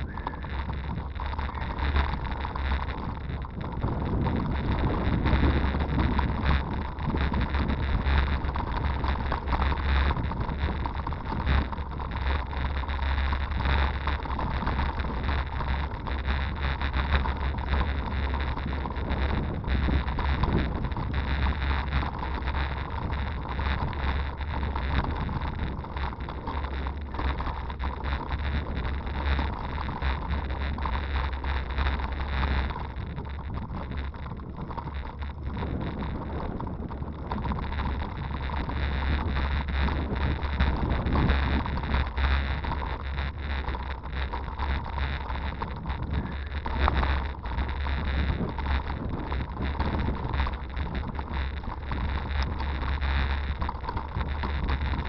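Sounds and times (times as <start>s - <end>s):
bike rattles and knocks: 0.0s - 55.0s
wind rumbling on microphone: 0.0s - 55.0s.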